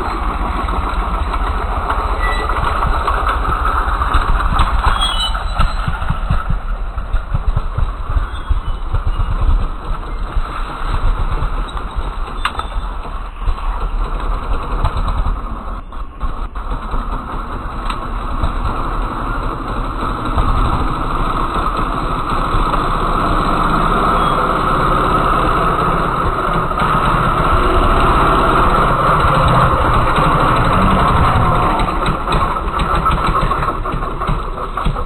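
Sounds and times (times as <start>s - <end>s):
motorcycle engine at low revs: 0.0s - 35.0s.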